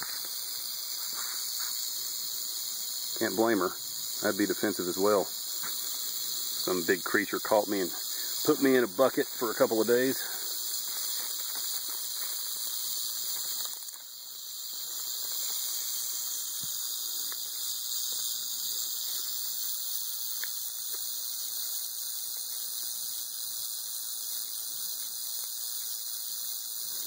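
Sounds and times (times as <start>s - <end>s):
rattlesnake rattle buzzing: 0.0s - 27.0s.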